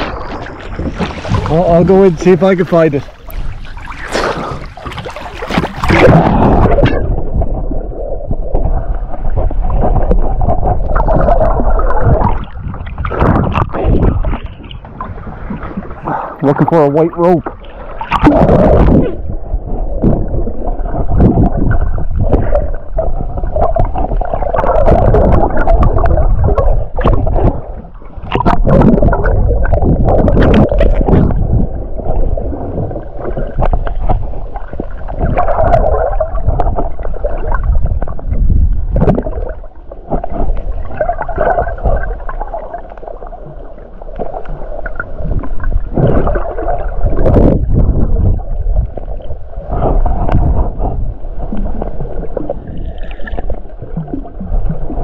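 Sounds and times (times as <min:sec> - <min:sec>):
underwater gurgling: 0:00.0 - 0:55.0
water rushing: 0:00.0 - 0:55.0.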